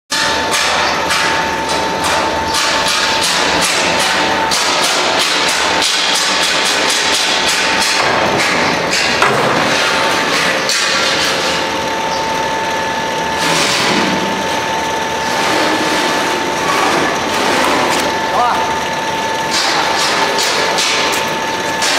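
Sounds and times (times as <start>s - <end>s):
high-pitched machine hum: 0.1s - 21.9s.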